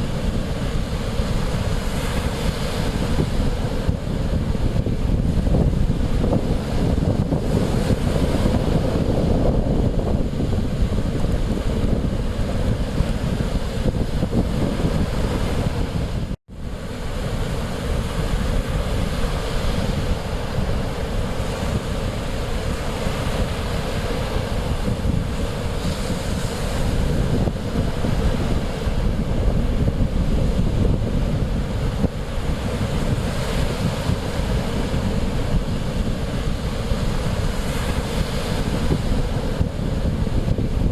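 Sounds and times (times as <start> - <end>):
waves washing on shore: 0.0 - 40.9
wind buffeting microphone: 0.0 - 40.9.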